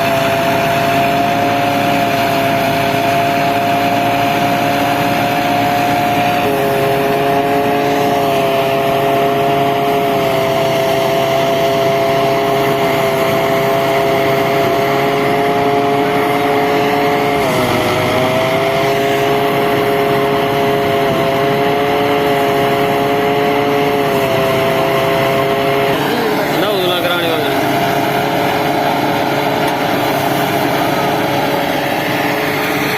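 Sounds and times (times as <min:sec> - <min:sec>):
harvesting machine whining: 0:00.0 - 0:32.9.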